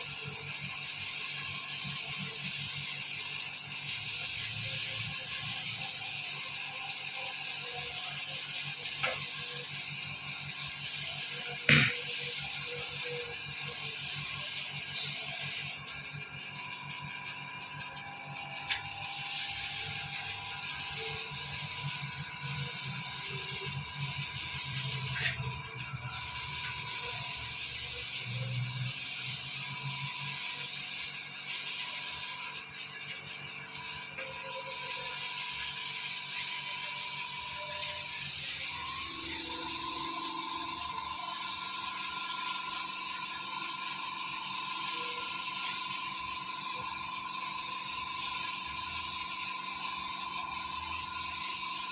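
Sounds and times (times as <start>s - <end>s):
spray gun hissing: 0.0s - 15.9s, 18.7s - 25.5s, 26.1s - 32.4s, 34.4s - 51.9s.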